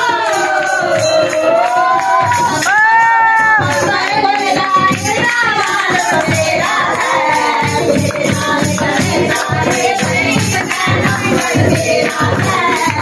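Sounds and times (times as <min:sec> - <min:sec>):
hand claps: 0:00.0 - 0:13.0
person singing devotional song: 0:00.0 - 0:13.0
tambourine jingles: 0:00.0 - 0:13.0.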